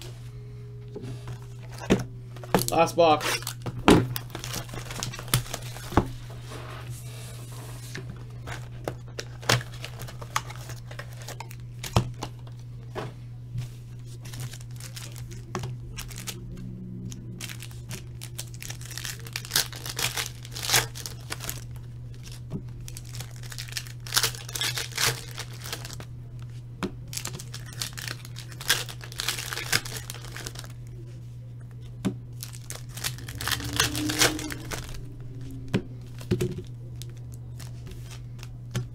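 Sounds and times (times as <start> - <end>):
steady low hum: 0.0 - 38.9
foil wrappers tearing and crinkling: 1.3 - 6.4, 7.6 - 12.6, 14.0 - 30.9, 32.3 - 38.9.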